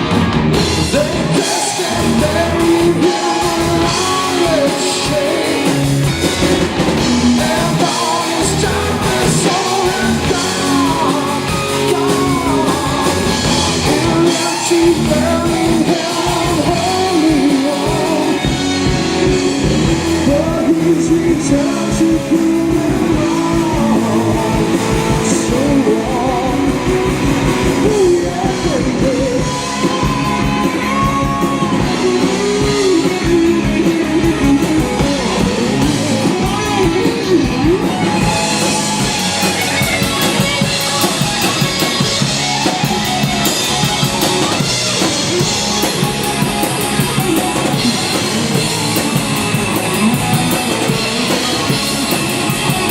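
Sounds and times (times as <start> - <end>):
drum kit: 0.0 - 52.9
electric guitar: 0.0 - 52.9
person singing: 0.9 - 52.9.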